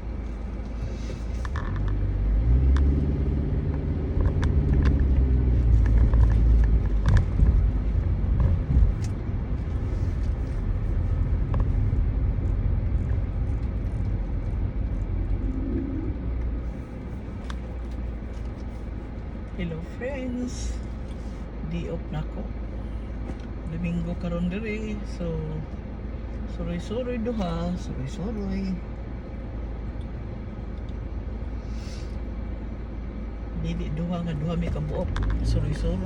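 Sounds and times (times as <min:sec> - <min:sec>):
vehicle engine and road rumble: 0:00.0 - 0:36.0.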